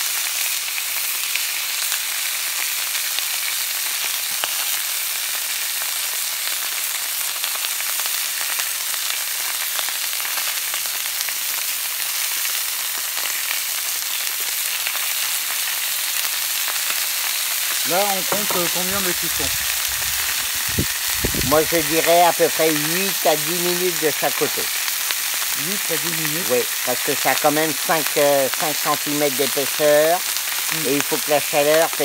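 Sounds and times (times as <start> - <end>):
fish sizzling on a griddle: 0.0 - 32.0.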